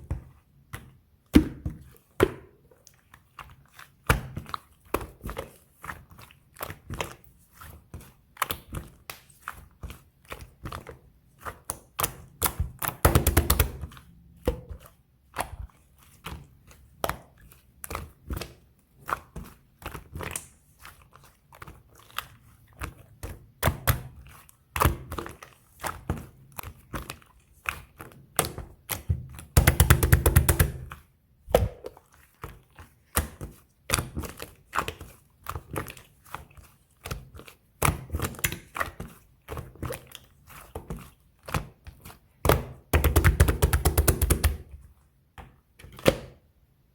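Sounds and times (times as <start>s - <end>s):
rapid crackling of slime: 0.0s - 44.9s.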